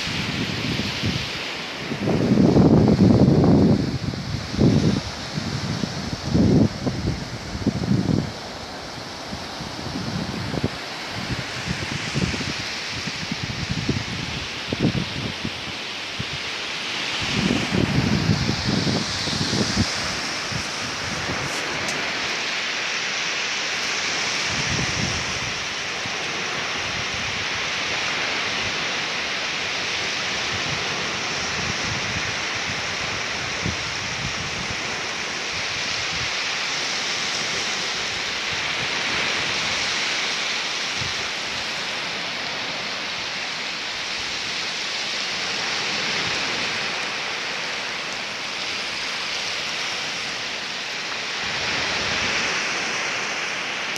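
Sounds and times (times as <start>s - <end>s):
wind rumble on microphone: 0.0s - 23.2s, 23.8s - 53.9s
waves washing up shore: 0.0s - 53.9s.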